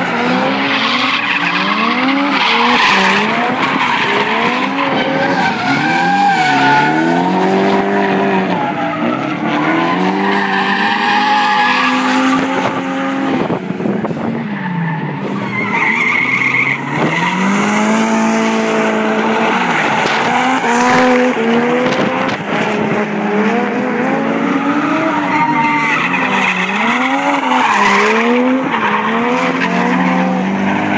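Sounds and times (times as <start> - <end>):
car engines revving: 0.0 - 30.9
tyres skidding and squealing: 0.0 - 30.9.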